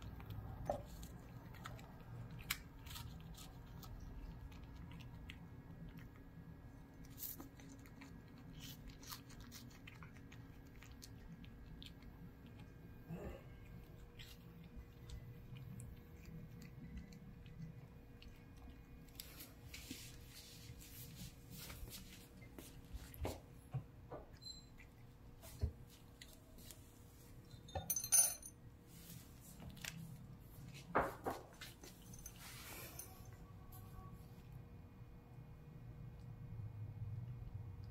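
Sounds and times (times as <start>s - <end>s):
cat chewing and licking food: 0.0s - 27.6s, 28.5s - 37.9s.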